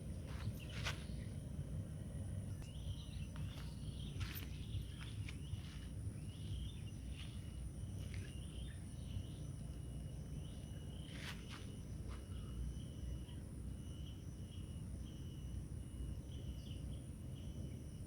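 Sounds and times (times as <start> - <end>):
insects calling: 0.0 - 18.0.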